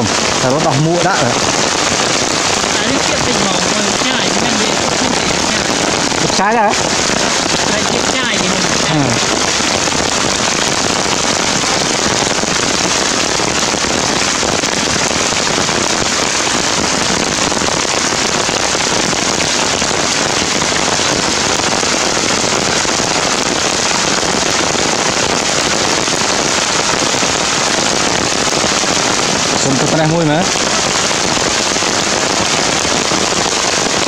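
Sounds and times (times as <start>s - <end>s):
heavy rain pattering: 0.0s - 34.0s.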